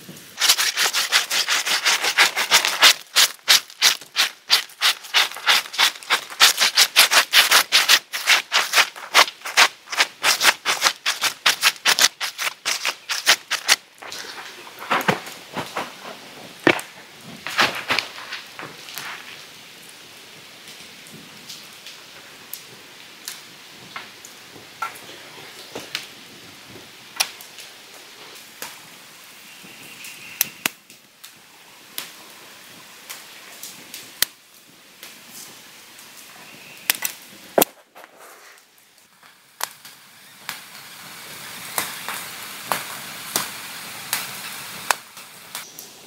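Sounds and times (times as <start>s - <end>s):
campfire crackling: 0.0s - 25.0s, 30.4s - 46.0s.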